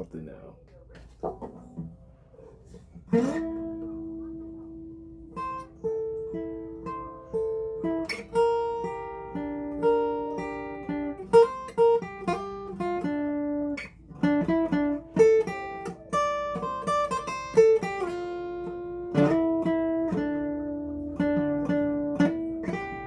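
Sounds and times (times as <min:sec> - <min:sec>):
plucked acoustic guitar: 0:00.9 - 0:23.0.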